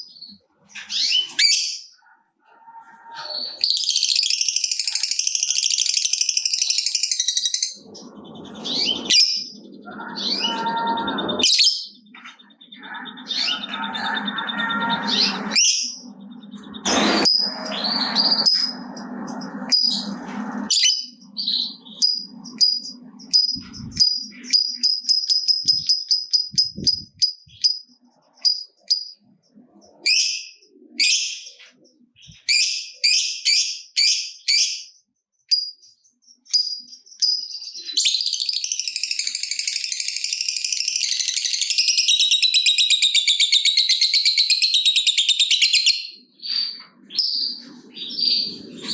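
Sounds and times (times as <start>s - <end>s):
lovebird chirping and trilling: 0.0s - 48.9s.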